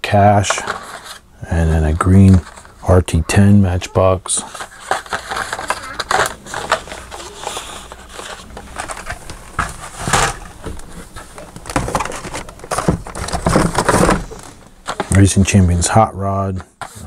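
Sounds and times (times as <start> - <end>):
plastic blister packs rustling: 0.2 - 17.0.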